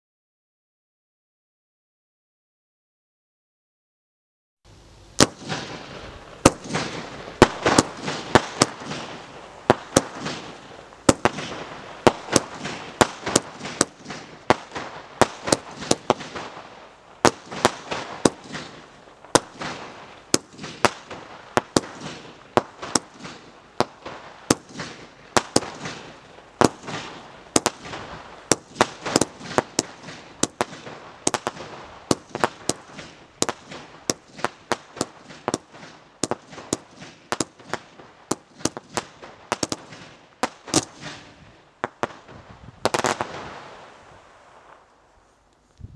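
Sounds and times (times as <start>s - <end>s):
fireworks hiss: 4.7s - 45.9s
fireworks bangs and cracks: 5.2s - 44.0s.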